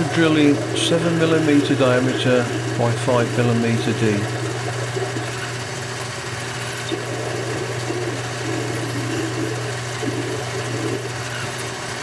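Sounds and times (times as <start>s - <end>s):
drill cutting metal: 0.0s - 12.0s
metal lathe humming: 0.0s - 12.0s.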